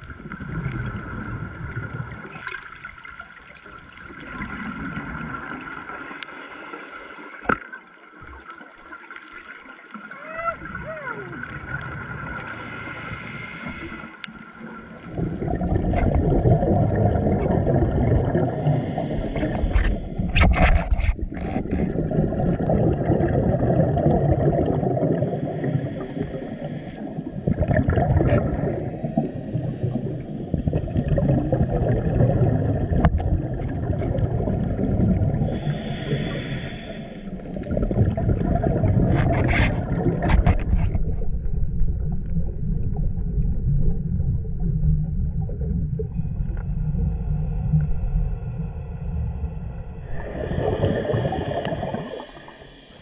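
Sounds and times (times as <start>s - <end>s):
underwater exhaled bubbles: 0.0s - 53.0s.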